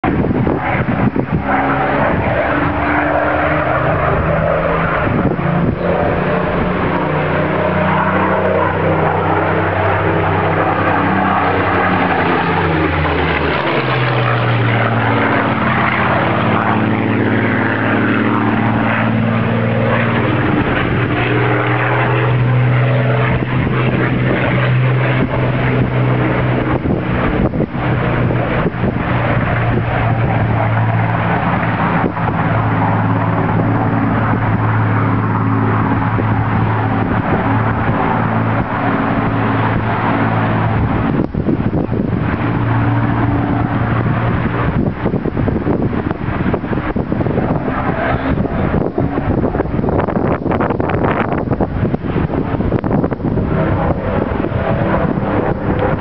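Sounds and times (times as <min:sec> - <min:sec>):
propeller plane flying overhead: 0:00.0 - 0:56.0.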